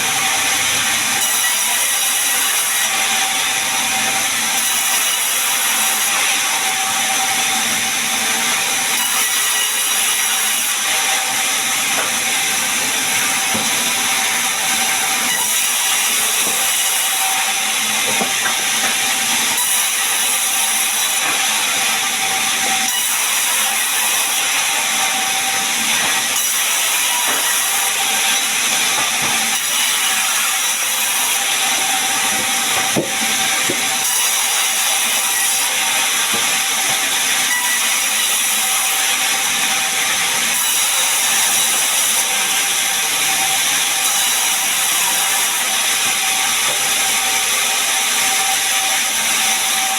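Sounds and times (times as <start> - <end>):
sawmill saw cutting log: 0.0 - 49.9.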